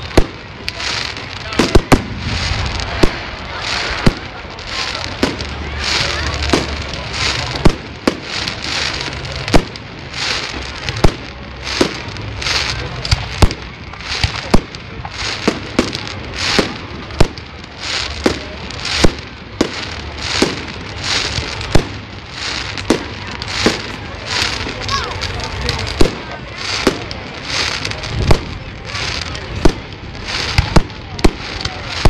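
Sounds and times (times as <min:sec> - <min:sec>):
fireworks bangs: 0:00.0 - 0:32.0
fireworks hissing and crackling: 0:00.0 - 0:32.0.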